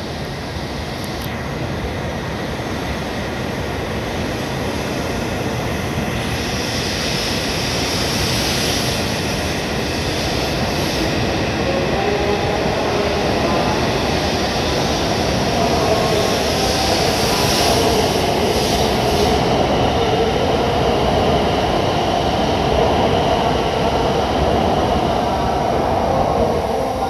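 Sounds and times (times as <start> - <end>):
high-speed train rushing past: 0.0 - 27.0.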